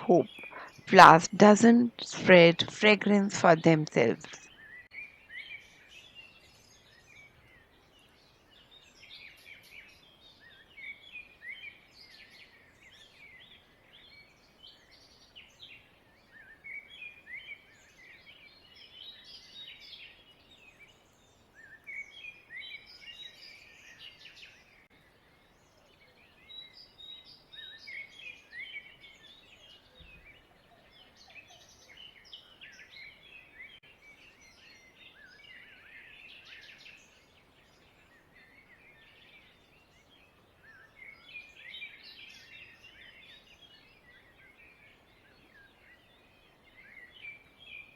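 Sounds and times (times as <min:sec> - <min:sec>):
birds chirping and trilling: 0:02.9 - 0:47.9.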